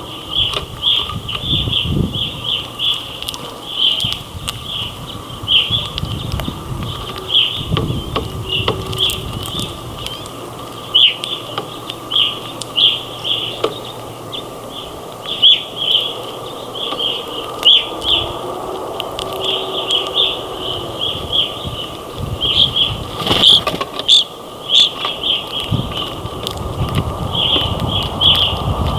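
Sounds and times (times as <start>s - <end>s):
birds chirping: 0.0s - 28.9s
faint steady hum: 0.0s - 28.9s.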